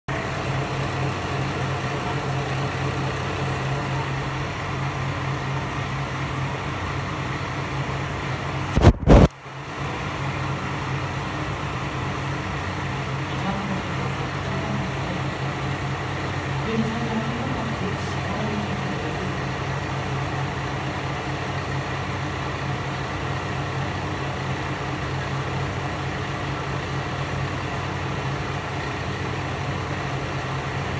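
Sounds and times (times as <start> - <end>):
diesel railcar engine idling: 0.0 - 30.9.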